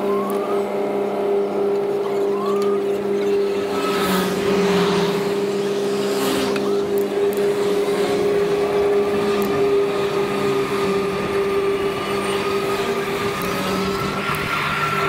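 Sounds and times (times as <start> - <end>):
e-bike tyres and motor drone: 0.0 - 15.0
thin whine: 0.0 - 15.0.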